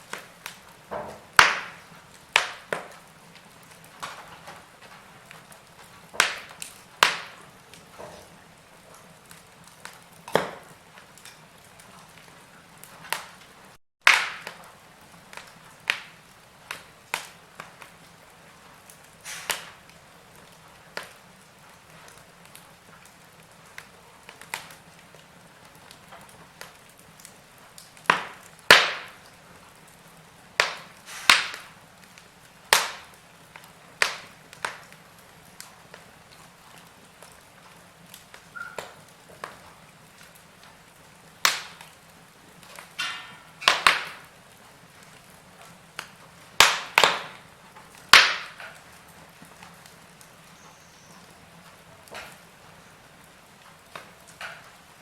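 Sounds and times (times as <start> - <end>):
faint steady hiss: 0.0 - 55.0
wood fire crackling and popping: 0.0 - 55.0.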